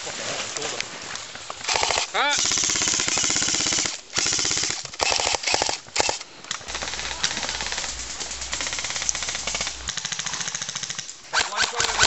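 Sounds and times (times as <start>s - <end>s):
airsoft rifles firing full auto: 1.6s - 12.0s.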